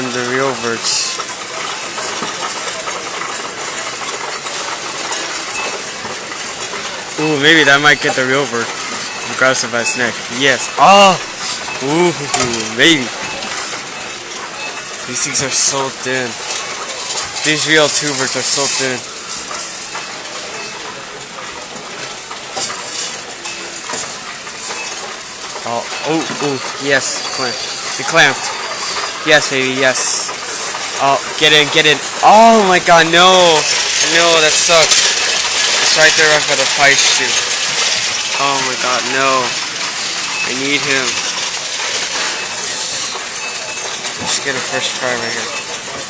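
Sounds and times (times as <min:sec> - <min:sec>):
din of arcade machines: 0:00.0 - 0:46.0.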